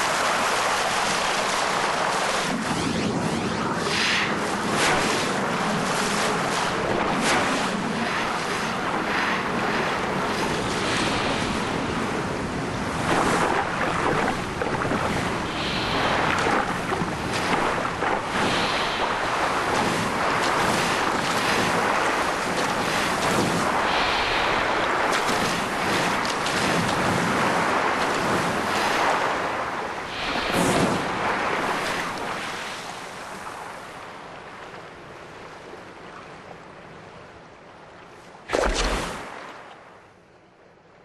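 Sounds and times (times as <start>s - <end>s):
churning water and bubbles: 0.0s - 33.1s, 38.4s - 39.4s.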